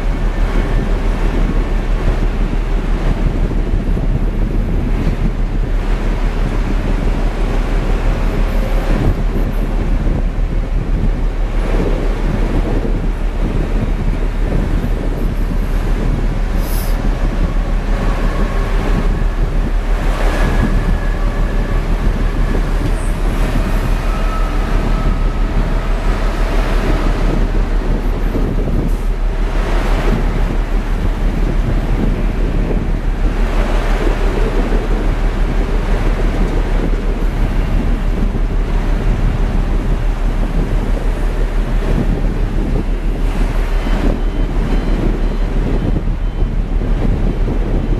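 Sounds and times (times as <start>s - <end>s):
heavy surf rumbling: 0.0s - 47.9s
wind buffeting microphone: 0.0s - 47.9s.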